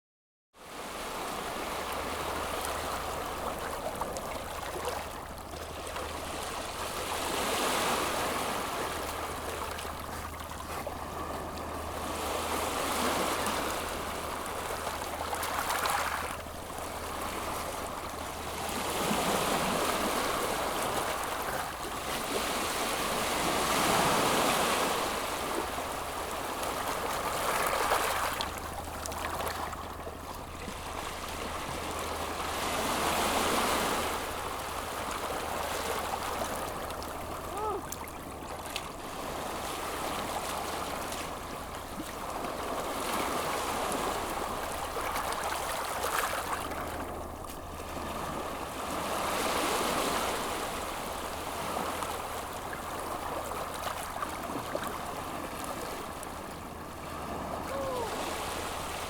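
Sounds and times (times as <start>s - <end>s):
sea waves washing in: 0.7s - 59.0s.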